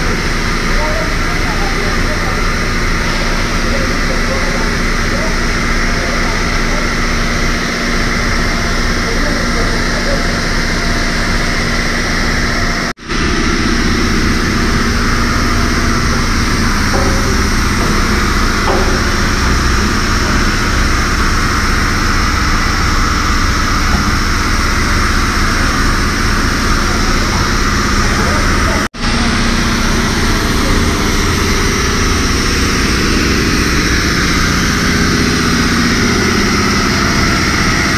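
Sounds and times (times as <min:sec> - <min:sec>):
low pump hum: 0:00.0 - 0:37.9
pressure washer spraying water: 0:00.0 - 0:37.9.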